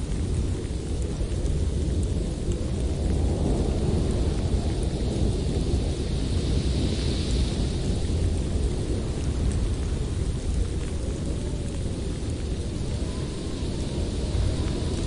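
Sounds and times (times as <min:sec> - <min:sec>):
blizzard wind rumbling: 0:00.0 - 0:15.0
faint wind howl: 0:00.0 - 0:15.0.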